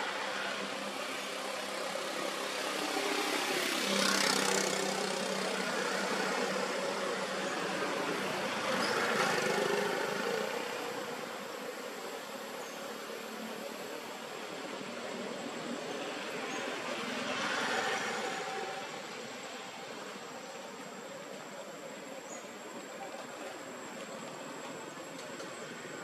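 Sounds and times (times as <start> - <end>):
steady traffic hum: 0.0 - 26.0
vehicle engines passing: 0.0 - 26.0.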